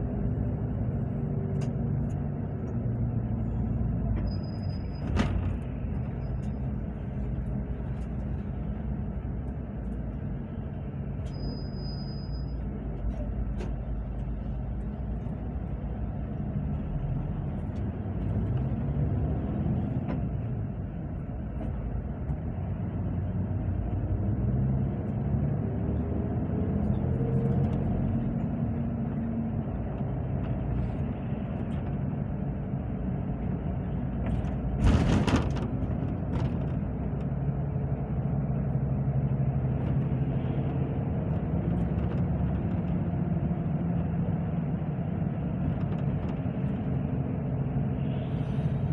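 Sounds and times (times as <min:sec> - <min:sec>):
road noise: 0:00.0 - 0:48.9
vehicle engine: 0:00.0 - 0:48.9.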